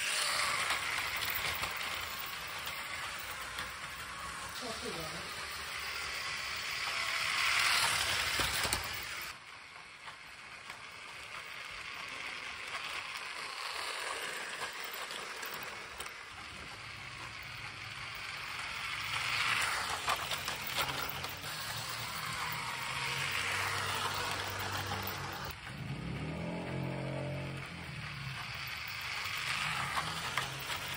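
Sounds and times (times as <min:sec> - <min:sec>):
toy train wheels rattling on track: 0:00.0 - 0:30.9.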